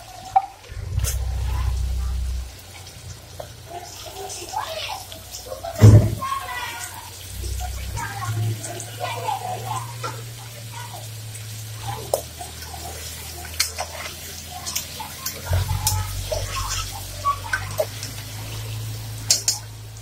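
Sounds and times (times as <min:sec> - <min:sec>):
meat sizzling in oil: 0:01.3 - 0:20.0.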